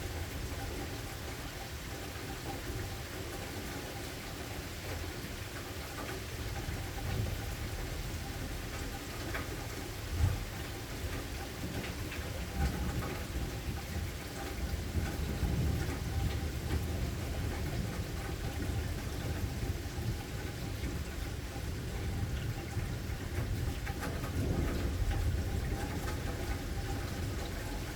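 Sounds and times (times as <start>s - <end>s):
steady rain: 0.0s - 27.9s
water drips and taps: 4.8s - 27.9s.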